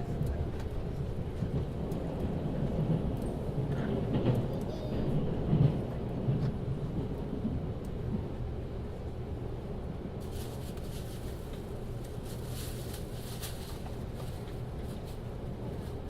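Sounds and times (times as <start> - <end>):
train wheels and motors rumbling: 0.0 - 16.0.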